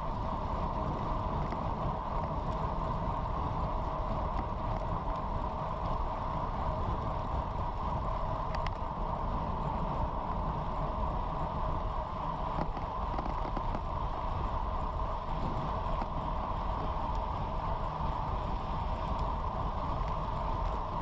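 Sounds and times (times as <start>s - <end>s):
bike tyres on asphalt: 0.0s - 21.0s
rushing wind: 0.0s - 21.0s.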